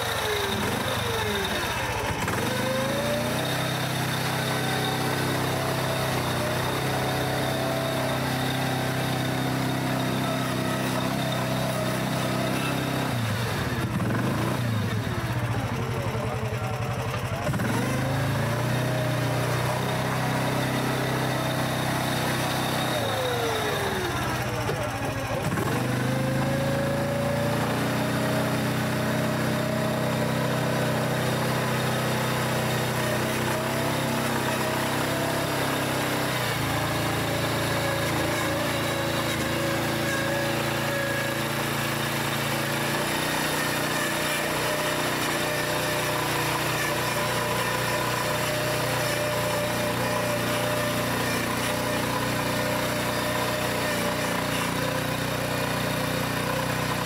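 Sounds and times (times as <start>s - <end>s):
all-terrain vehicle engine running: 0.0s - 57.0s.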